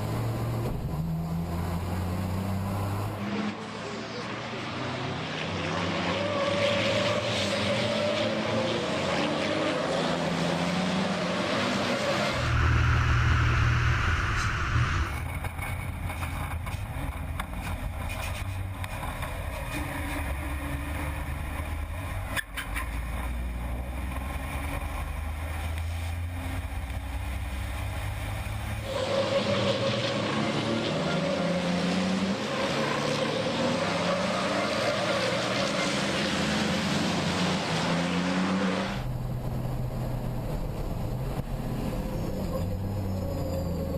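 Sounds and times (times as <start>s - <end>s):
diesel truck engines running hard: 0.0s - 5.3s, 7.5s - 43.9s.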